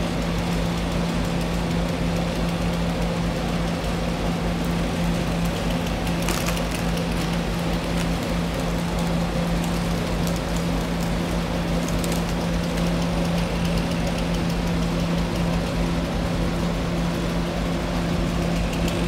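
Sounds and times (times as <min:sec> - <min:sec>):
heavy equipment engines running: 0:00.0 - 0:19.0.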